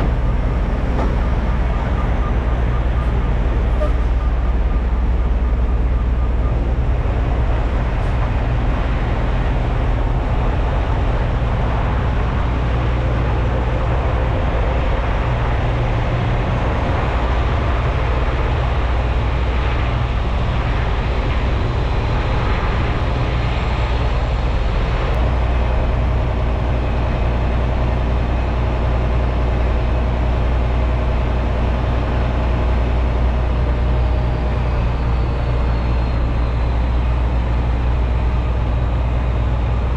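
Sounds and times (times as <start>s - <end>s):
diesel truck engine running: 0.0s - 39.9s
road noise: 0.0s - 39.9s.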